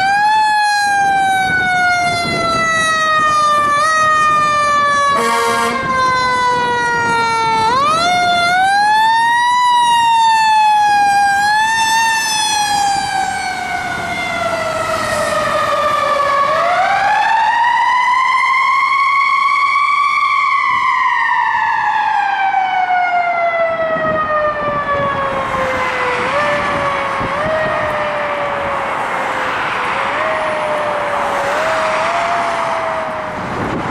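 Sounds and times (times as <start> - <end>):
fire siren wailing: 0.0 - 33.9
rushing road noise: 0.0 - 33.9.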